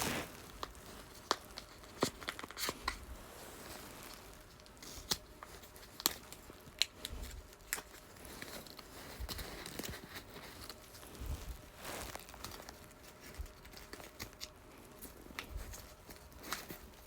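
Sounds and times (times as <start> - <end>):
faint packaging rustling: 0.0 - 17.0.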